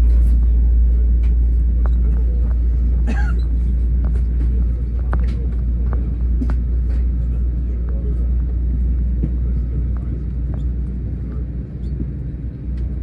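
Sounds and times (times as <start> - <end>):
airplane cabin low rumble: 0.0 - 13.0.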